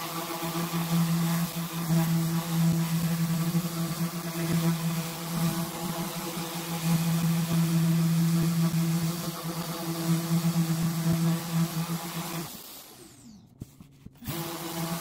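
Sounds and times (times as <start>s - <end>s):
orbital sander humming: 0.0s - 15.0s.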